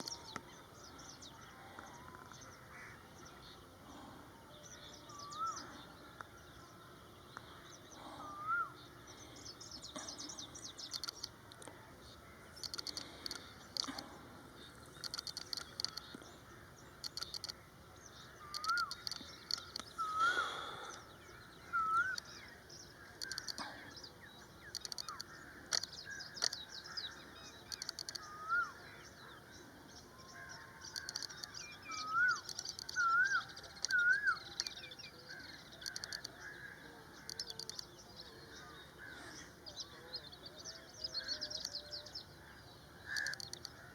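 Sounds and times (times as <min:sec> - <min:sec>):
birds chattering trills: 0:00.0 - 0:43.9.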